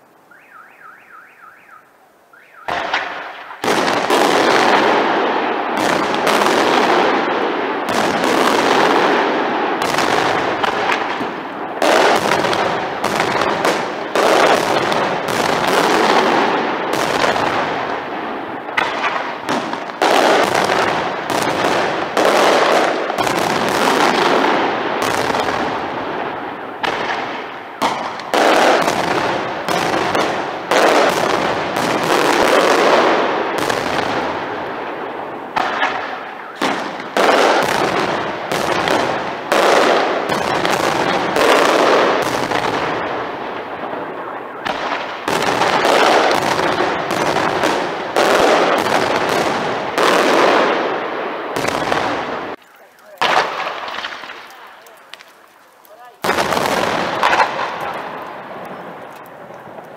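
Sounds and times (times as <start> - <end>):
fireworks bangs: 0.0 - 59.9.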